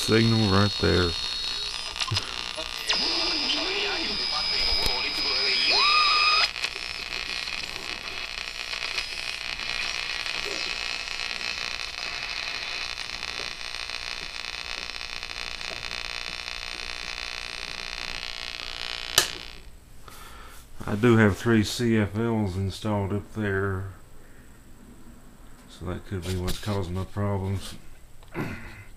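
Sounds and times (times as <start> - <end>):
radio static hiss: 0.0 - 24.5.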